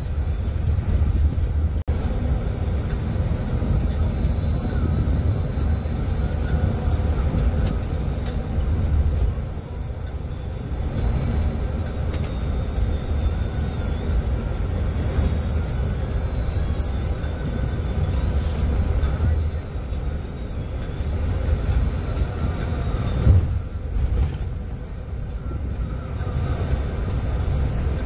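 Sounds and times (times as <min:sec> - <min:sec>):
bus engine and road noise: 0:00.0 - 0:28.0
music playing: 0:00.0 - 0:28.0.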